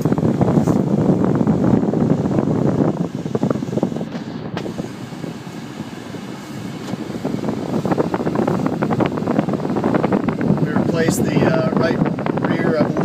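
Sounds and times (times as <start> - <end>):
air conditioning fan blowing: 0.0 - 13.0
diesel car engine running: 0.0 - 13.0.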